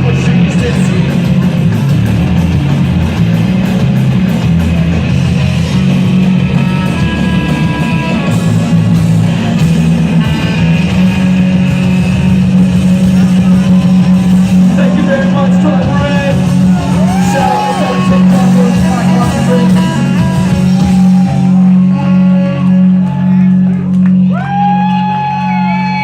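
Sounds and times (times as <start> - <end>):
electric guitar: 0.0 - 26.0
rock band playing: 0.0 - 26.0.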